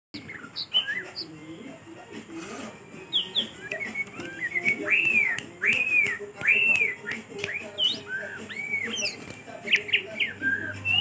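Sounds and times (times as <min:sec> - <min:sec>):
bird whistling rising and falling: 0:00.2 - 0:01.3, 0:03.1 - 0:11.0
bird chirps: 0:00.2 - 0:01.8, 0:03.0 - 0:11.0.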